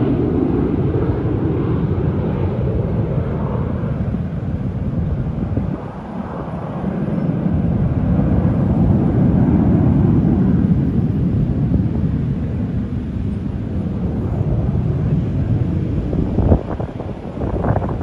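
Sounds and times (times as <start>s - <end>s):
jet aircraft flying past: 0.0s - 18.0s.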